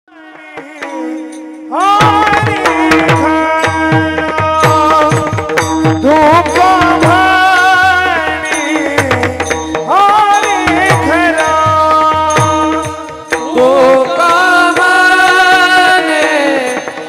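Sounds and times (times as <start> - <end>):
mridang drum strokes: 0.1 - 17.0.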